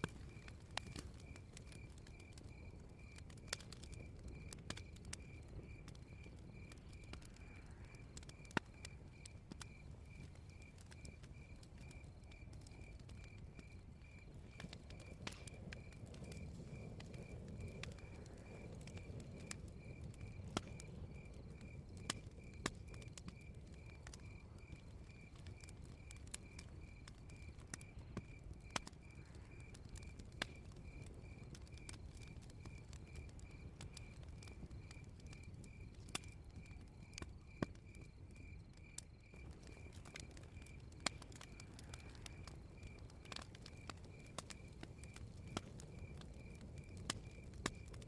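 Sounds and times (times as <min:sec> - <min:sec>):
campfire crackling: 0:00.0 - 0:48.0
cricket chirping: 0:00.0 - 0:48.0.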